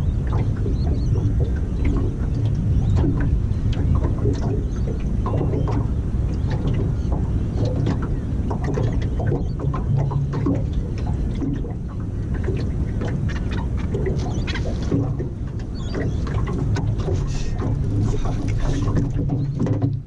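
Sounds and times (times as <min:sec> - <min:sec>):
boat motor hum: 0:00.0 - 0:20.0.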